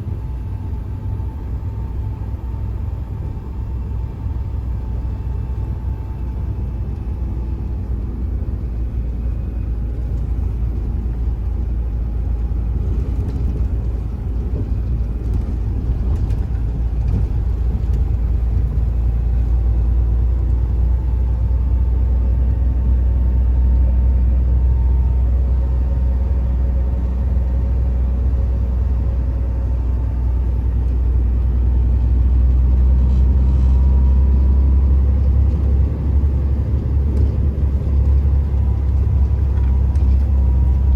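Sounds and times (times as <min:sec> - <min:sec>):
truck engine and road noise: 0:00.0 - 0:40.9.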